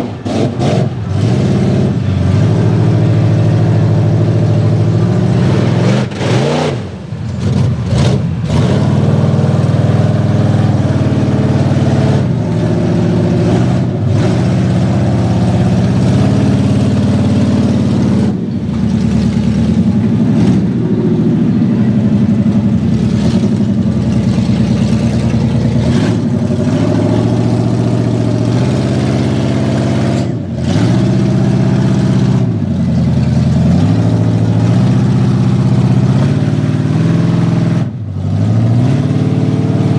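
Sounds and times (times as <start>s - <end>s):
truck churning through mud: 0.0s - 39.9s
truck engine revving hard: 0.0s - 39.9s.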